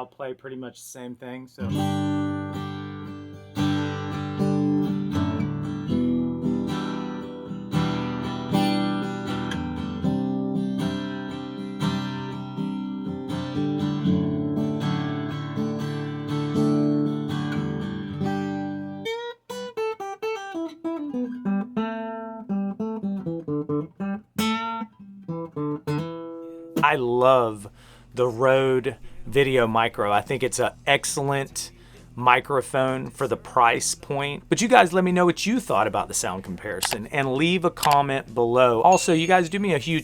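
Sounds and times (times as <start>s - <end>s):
acoustic guitar playing: 1.6s - 40.0s.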